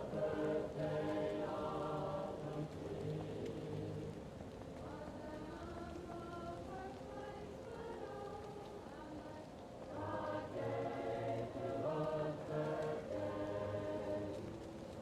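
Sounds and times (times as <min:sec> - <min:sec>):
muffled choir singing: 0:00.0 - 0:15.0.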